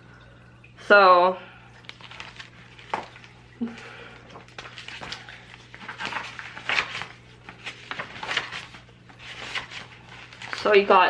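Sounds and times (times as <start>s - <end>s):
low steady hum: 0.0s - 11.0s
paper pages rustling: 1.8s - 11.0s.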